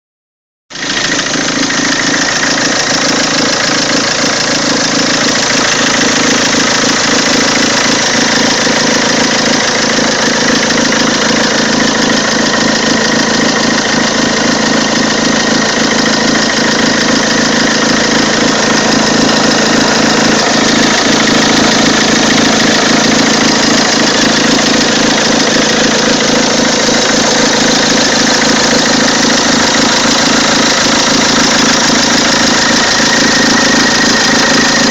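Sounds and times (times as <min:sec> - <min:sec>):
diesel engine idling with clatter: 0:00.7 - 0:34.9.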